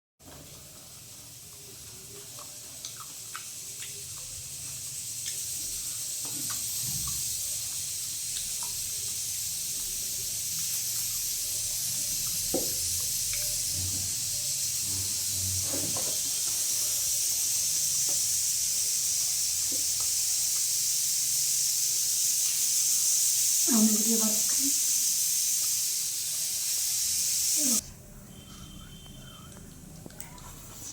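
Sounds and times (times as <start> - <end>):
oil popping and crackling: 0.2 - 27.8
food sizzling in hot oil: 0.3 - 27.8.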